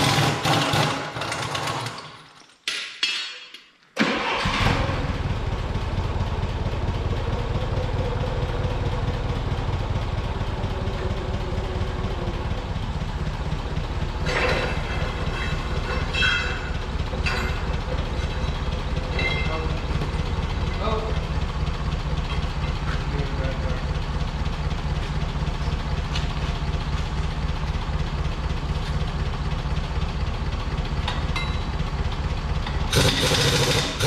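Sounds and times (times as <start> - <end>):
forklift engine idling: 4.0 - 34.0.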